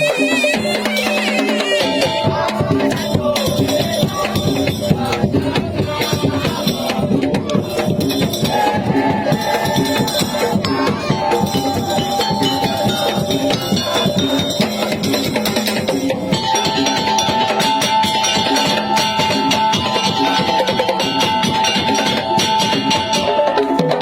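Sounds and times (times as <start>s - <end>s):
fast dense drumming: 0.0s - 24.0s
rattling percussion: 0.0s - 24.0s.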